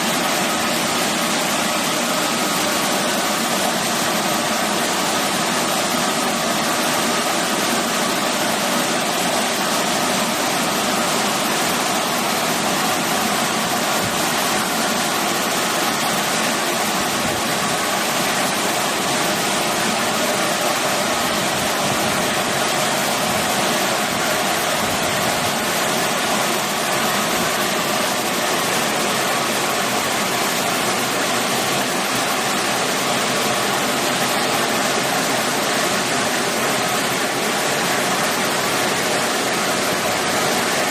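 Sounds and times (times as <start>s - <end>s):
blow dryer running: 0.0s - 40.9s.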